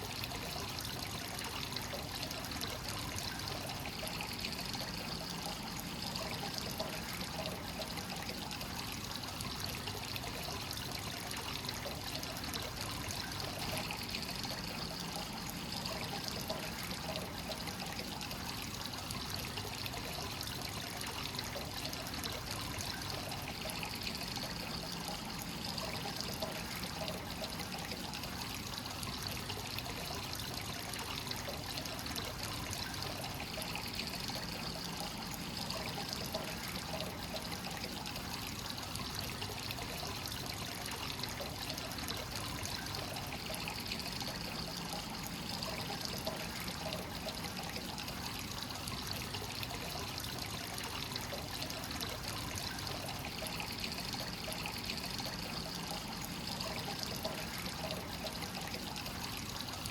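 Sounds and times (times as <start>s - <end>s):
water pouring into a bath: 0.0s - 59.9s.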